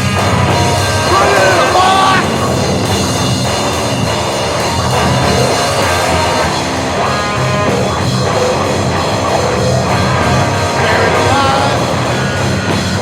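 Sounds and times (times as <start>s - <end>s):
drum kit: 0.0s - 13.0s
electric guitar: 0.0s - 13.0s.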